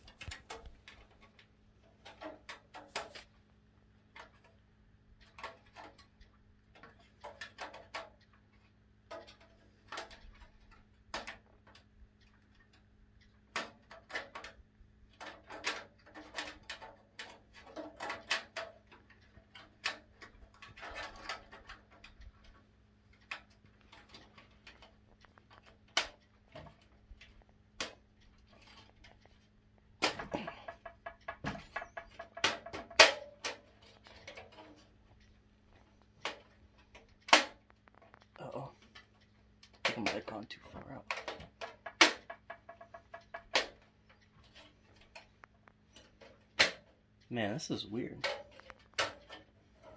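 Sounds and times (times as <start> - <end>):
thin metal shield clicking and rattling: 5.2 - 47.0, 47.9 - 49.9.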